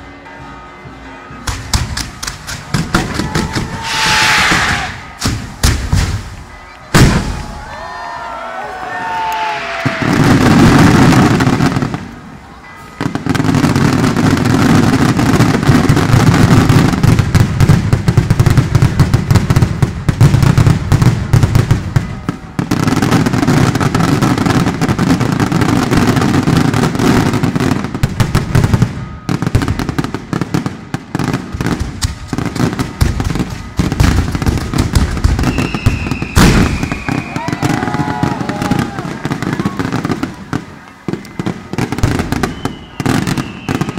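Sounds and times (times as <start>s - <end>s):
fireworks and firecrackers barrage: 1.2s - 43.9s.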